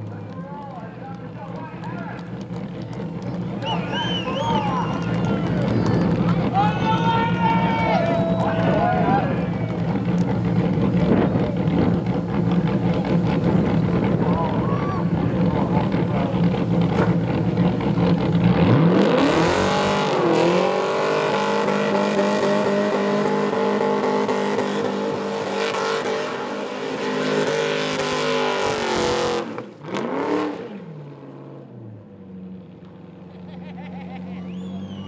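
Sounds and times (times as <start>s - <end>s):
car engine revving in burnout: 1.9s - 31.6s.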